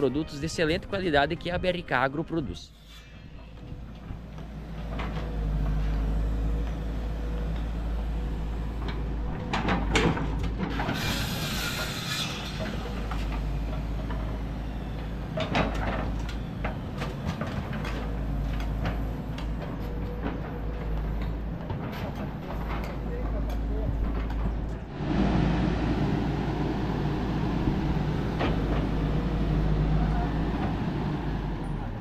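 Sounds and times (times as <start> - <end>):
excavator diesel engine running: 3.4 - 32.0.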